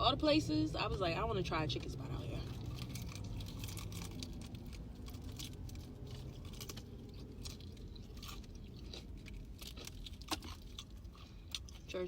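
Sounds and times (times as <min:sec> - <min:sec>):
person chewing crunchy food: 0:02.2 - 0:12.0.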